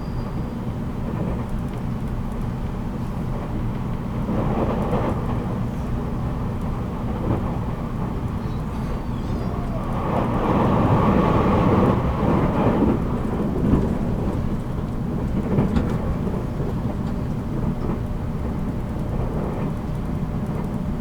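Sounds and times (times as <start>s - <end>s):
electric train rumbling on track: 0.0s - 21.0s.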